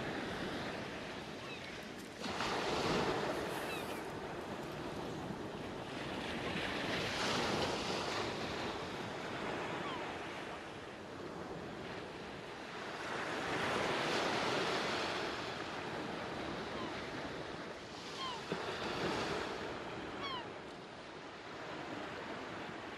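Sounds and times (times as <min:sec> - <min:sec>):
sea waves breaking: 0:00.0 - 0:22.9.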